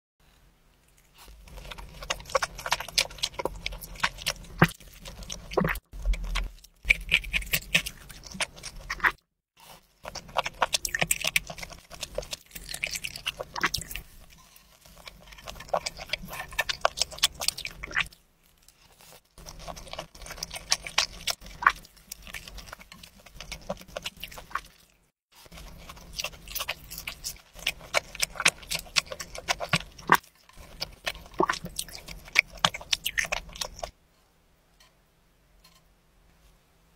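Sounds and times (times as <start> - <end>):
wet smacking chewing: 1.1 - 33.9.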